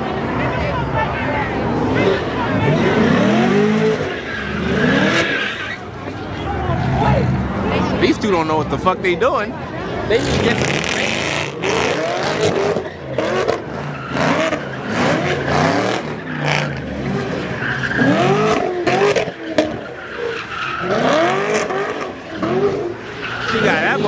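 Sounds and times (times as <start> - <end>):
tyres skidding on snow: 0.0 - 8.5, 9.4 - 24.0
car engines revving: 0.0 - 24.0.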